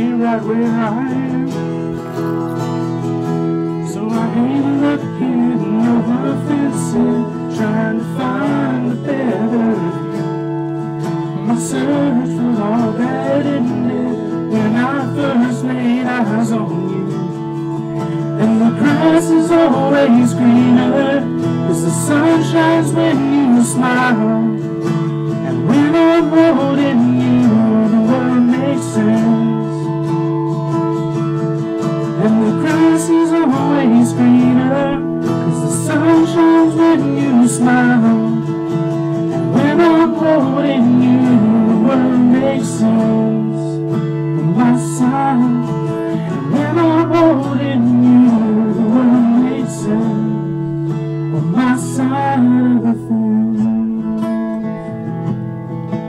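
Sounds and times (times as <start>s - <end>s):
man singing into microphone: 0.0s - 2.5s, 3.8s - 10.6s, 11.2s - 30.0s, 32.1s - 54.7s
strummed acoustic guitar: 0.0s - 56.0s.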